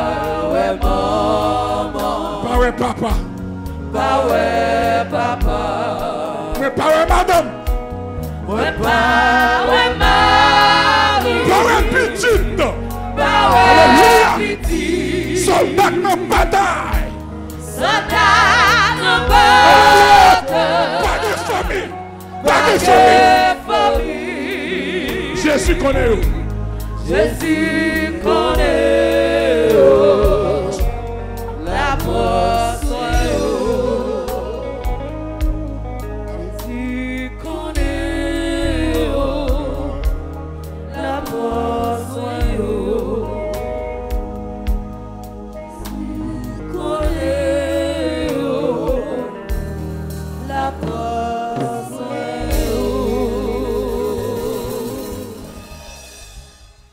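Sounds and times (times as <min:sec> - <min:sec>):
person singing gospel with vibrato: 0:00.0 - 0:44.8, 0:45.5 - 0:56.0
band with bass and drums: 0:00.0 - 0:56.9.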